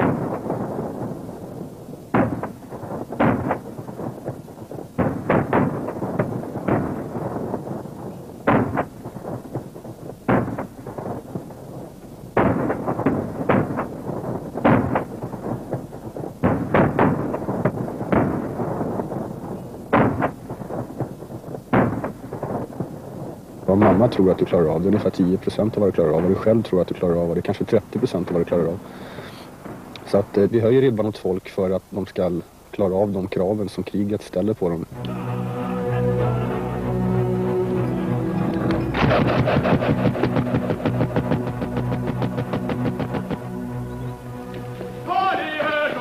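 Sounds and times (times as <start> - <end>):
gunshots with rolling echo: 0.0 - 31.5, 34.8 - 46.0.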